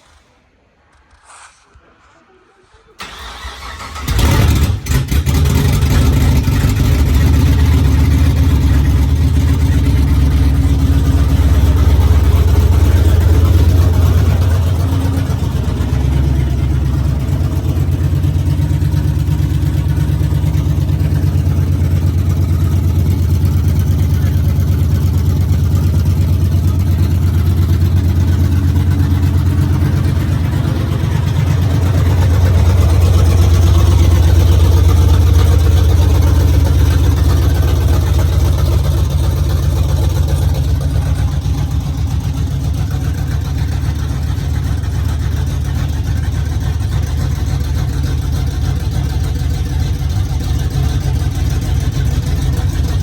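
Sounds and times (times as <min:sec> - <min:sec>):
engine idling: 0:03.0 - 0:53.0.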